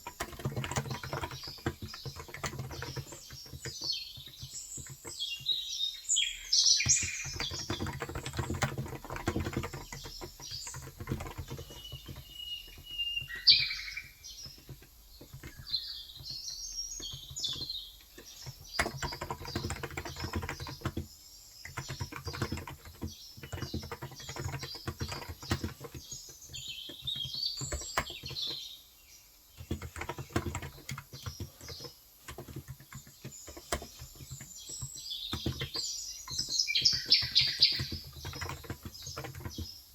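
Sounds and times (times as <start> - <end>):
keyboard typing: 0.0 - 5.7, 6.4 - 28.7, 29.5 - 39.9
birds chirping: 0.0 - 39.9.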